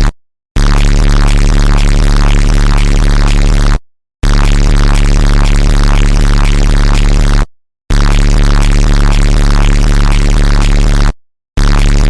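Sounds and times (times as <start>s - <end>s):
distorted bass-boosted sound effect: 0.0s - 12.0s.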